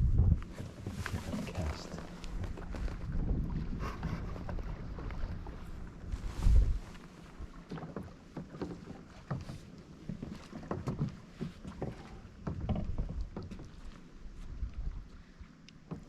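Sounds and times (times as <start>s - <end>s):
water lapping and splashing: 0.0s - 16.0s.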